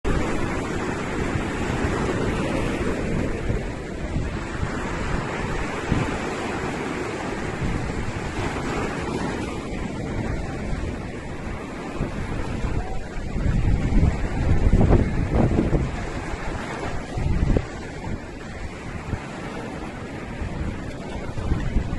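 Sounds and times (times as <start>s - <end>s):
ocean waves breaking: 0.0s - 21.9s
wind buffeting microphone: 0.0s - 21.9s.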